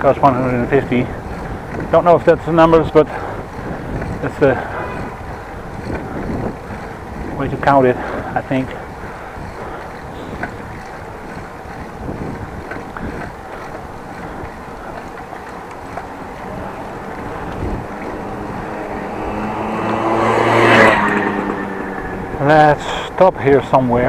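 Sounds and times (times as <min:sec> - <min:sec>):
motor vehicle passing: 0:00.0 - 0:24.0
wind noise on microphone: 0:00.0 - 0:24.0.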